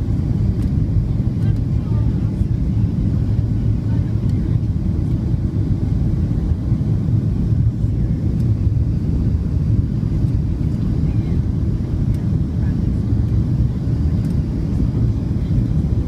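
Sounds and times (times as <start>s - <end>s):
aircraft cabin engine rumble: 0.0s - 16.0s.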